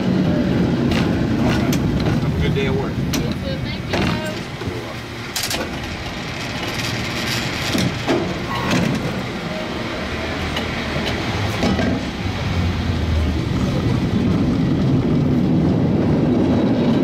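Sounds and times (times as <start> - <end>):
cable car rumbling on rails: 0.0 - 17.0.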